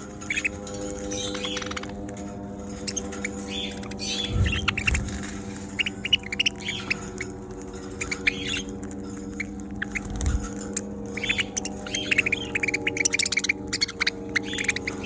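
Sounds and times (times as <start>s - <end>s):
budgerigars chirping: 0.0s - 15.0s
steady low hum: 0.0s - 15.0s.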